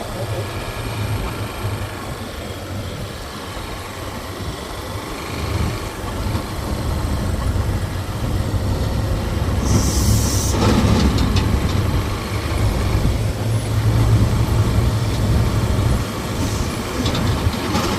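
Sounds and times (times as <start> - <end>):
vehicle engine rumbling: 0.0 - 17.9.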